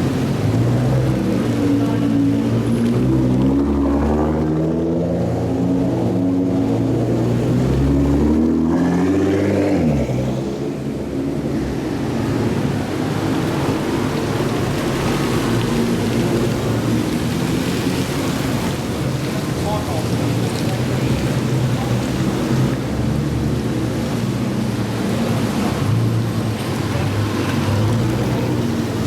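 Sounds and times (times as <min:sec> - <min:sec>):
car engines revving: 0:00.0 - 0:29.0
road noise: 0:00.0 - 0:29.0.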